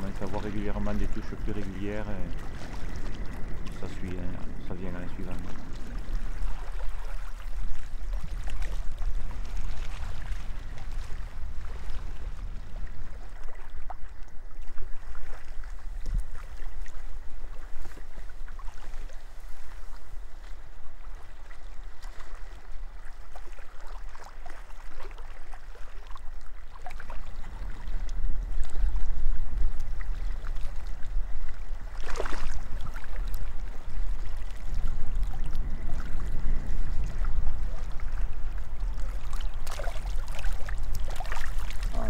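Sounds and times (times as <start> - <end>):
small waves lapping: 0.0 - 42.0
wind buffeting microphone: 0.0 - 42.0.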